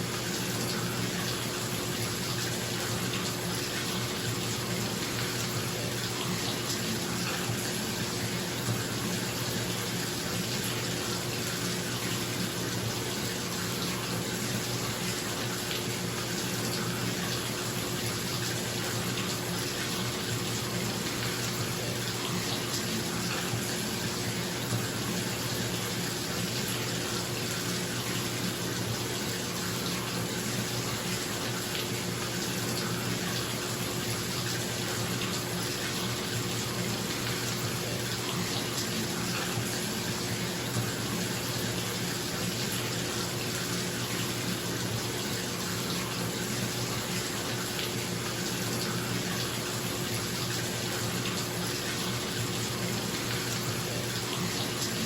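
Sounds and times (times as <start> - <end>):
tap water pouring into bathtub: 0.0 - 55.0.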